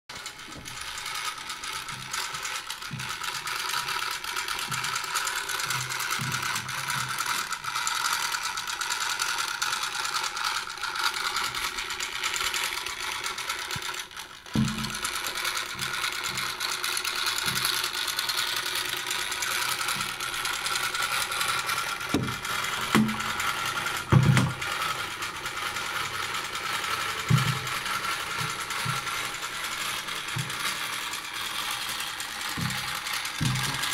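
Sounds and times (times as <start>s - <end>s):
clockwork motor whirring: 0.1s - 33.9s.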